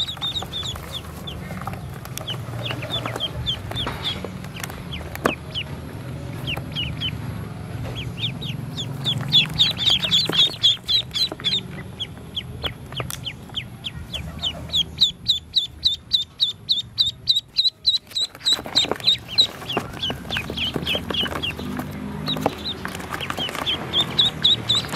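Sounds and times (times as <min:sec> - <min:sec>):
ducklings peeping: 0:00.0 - 0:24.9.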